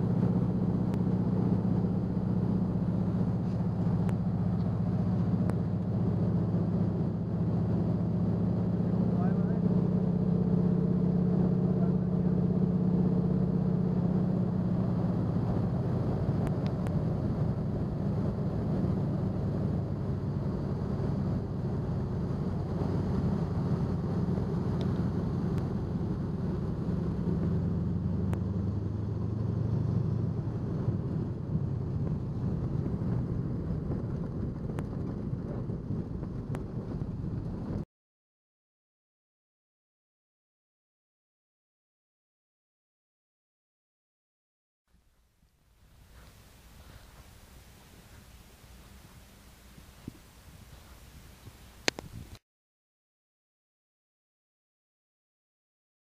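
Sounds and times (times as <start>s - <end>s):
floatplane engine and propeller: 0.0s - 37.9s, 45.0s - 52.4s.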